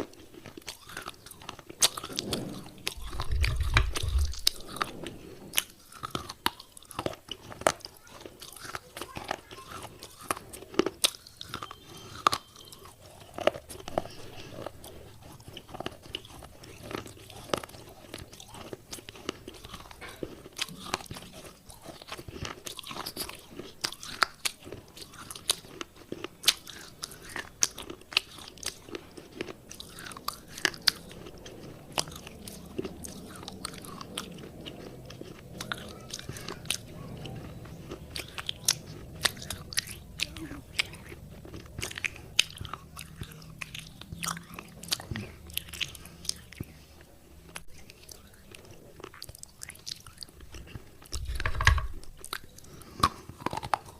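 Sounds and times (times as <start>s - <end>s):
chewing wet clay crunches: 0.0s - 53.9s.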